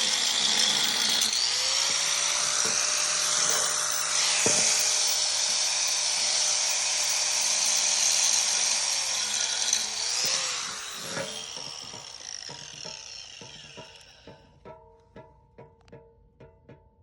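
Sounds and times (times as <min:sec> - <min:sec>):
power tool whirring on metal: 0:00.0 - 0:14.4.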